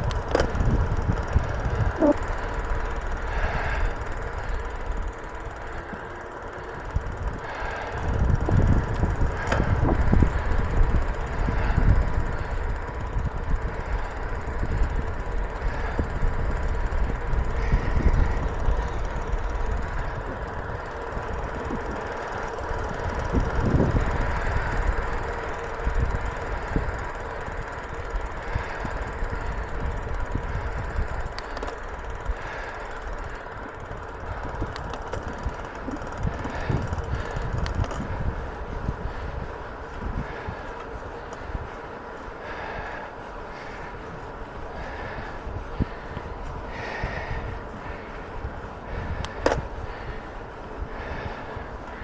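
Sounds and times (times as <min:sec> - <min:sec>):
bicycle road rumble: 0:00.0 - 0:52.0
faint steady hum: 0:00.0 - 0:52.0
wind over microphone: 0:00.0 - 0:52.0.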